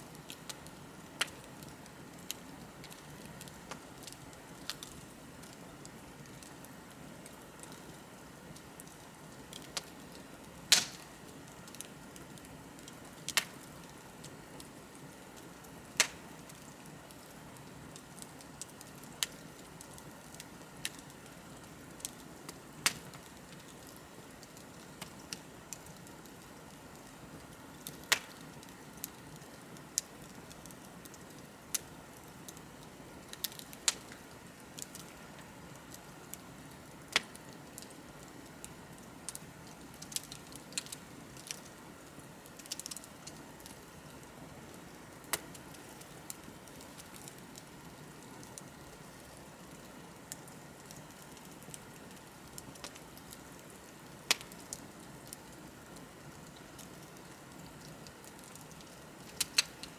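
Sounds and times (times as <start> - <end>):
soft hiss of burning: 0.0 - 59.9
wood fire crackling: 0.0 - 59.9.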